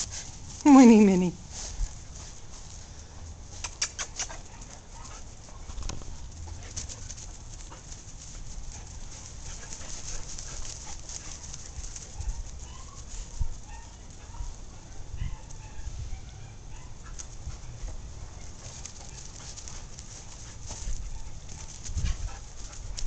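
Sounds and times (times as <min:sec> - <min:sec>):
dogs playing noises: 0:00.0 - 0:23.0.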